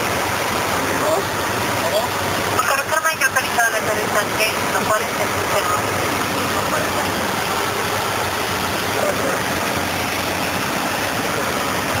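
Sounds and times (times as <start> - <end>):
airplane engine and propeller: 0.0 - 12.0.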